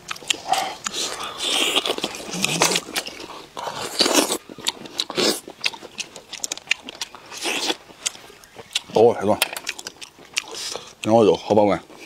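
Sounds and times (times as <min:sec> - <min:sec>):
man chewing: 0:00.0 - 0:11.1.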